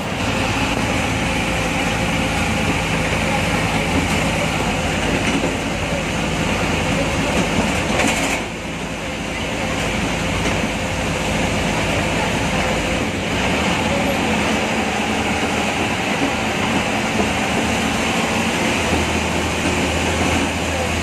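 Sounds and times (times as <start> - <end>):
bus engine drone: 0.0 - 21.0
road noise: 0.0 - 21.0.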